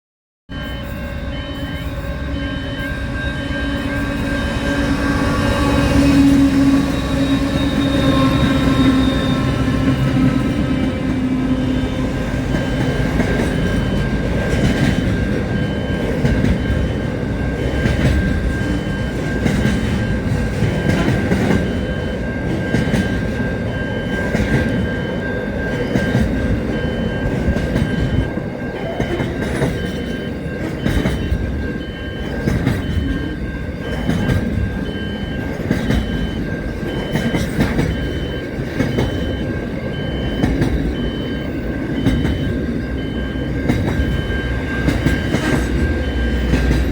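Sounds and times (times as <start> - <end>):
train rumble on rails: 0.5 - 46.9.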